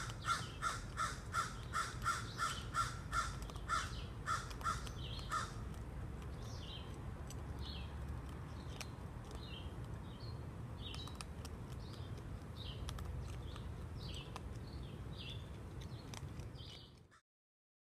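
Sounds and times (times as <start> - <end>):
small bird chirping: 0.0 - 5.6, 6.2 - 17.2.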